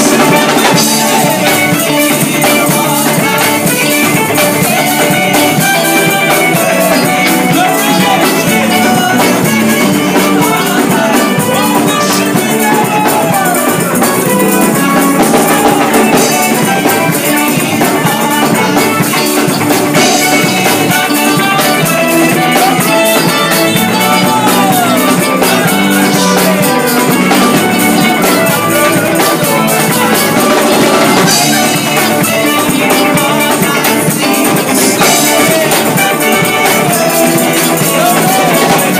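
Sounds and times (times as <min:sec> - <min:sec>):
drum kit with cymbals: 0:00.0 - 0:38.9
gospel band playing: 0:00.0 - 0:38.9.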